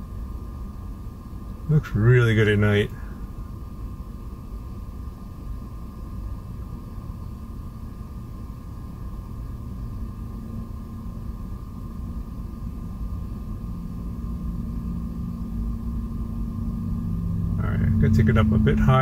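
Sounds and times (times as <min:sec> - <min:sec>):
steady hum: 0:00.0 - 0:19.0
vehicle rumble: 0:00.0 - 0:19.0.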